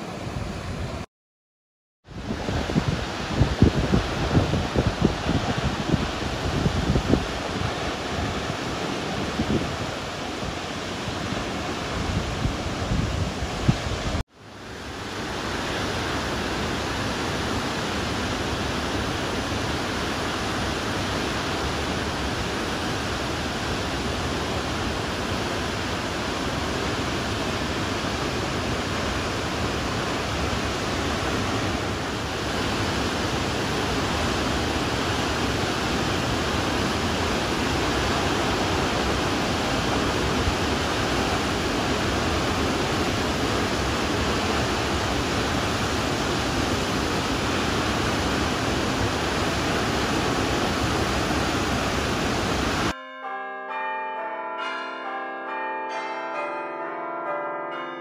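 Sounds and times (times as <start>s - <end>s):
waterfall rushing: 2.1s - 53.0s.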